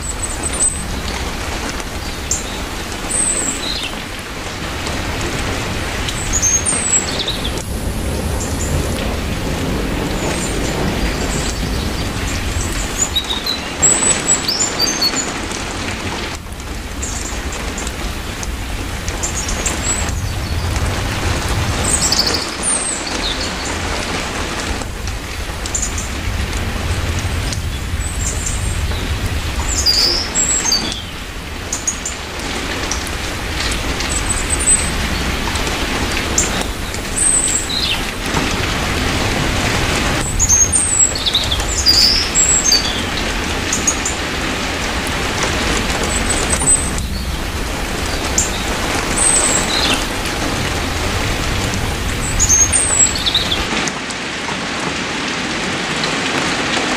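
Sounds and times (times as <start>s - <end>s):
birds chirping: 0.0s - 15.6s, 16.9s - 53.7s
heavy rain falling: 0.0s - 56.9s.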